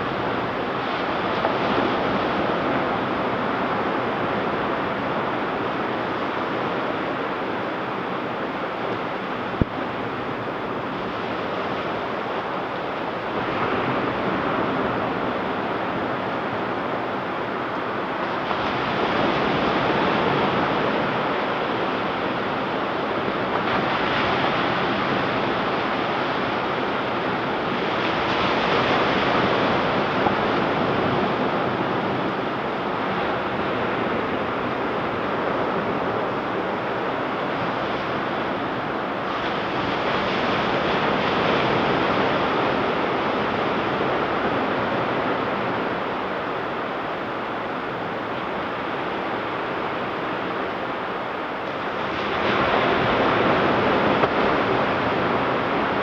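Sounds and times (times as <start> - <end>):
surf waves breaking on beach: 0.0 - 56.0.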